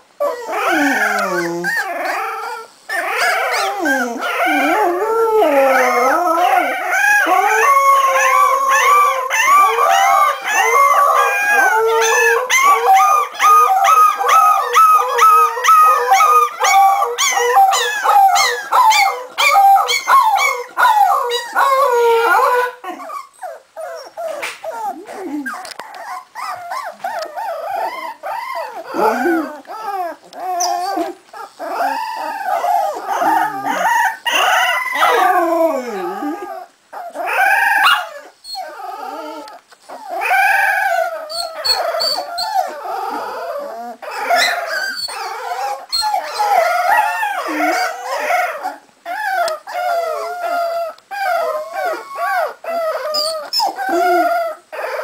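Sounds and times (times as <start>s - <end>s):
puppies howling: 0.0s - 55.0s.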